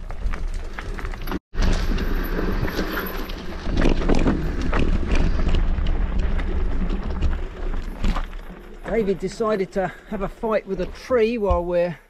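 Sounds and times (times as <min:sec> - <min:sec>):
bike clattering over rough trail: 0:00.0 - 0:12.0.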